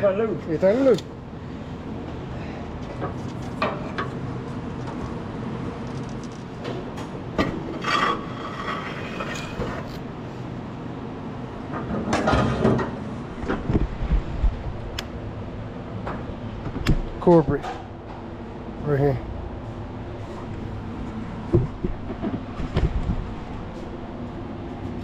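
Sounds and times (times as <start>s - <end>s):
engine hum: 0.3s - 25.0s.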